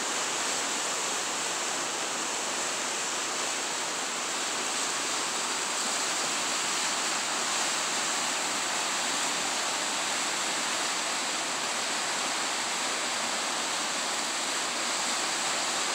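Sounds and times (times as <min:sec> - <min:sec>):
river water rushing over rocks: 0:00.0 - 0:15.9.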